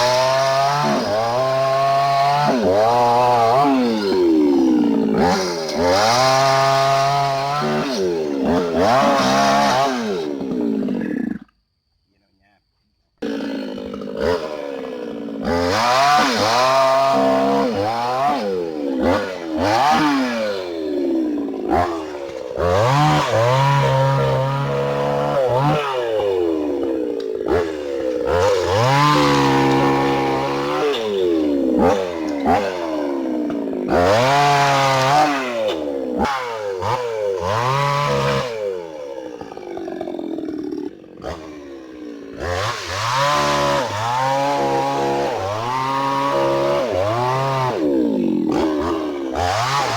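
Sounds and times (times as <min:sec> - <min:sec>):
chainsaw cutting wood: 0:00.0 - 0:11.6, 0:13.2 - 0:49.9.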